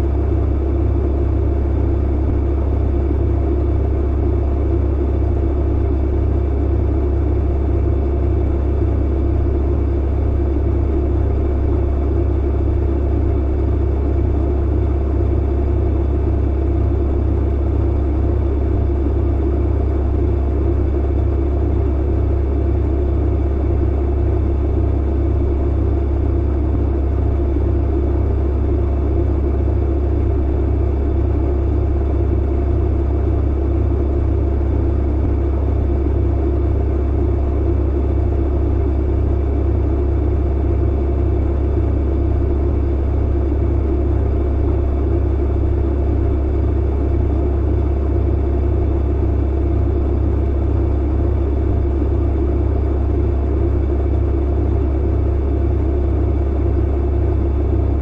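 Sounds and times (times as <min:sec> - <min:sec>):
clothes dryer rumbling: 0:00.0 - 0:58.0.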